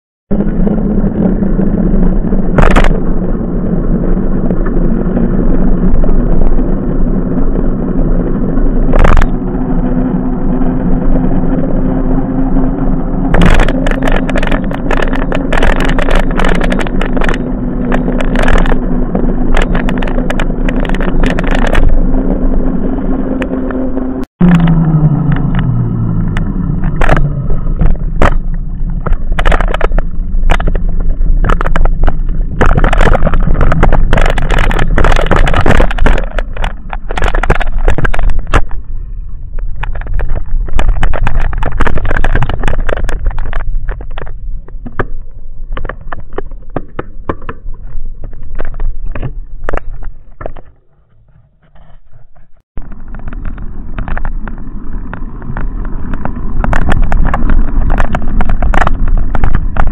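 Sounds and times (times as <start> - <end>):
bike rattling over rough ground: 0.3 - 59.9
wind buffeting microphone: 0.3 - 59.9.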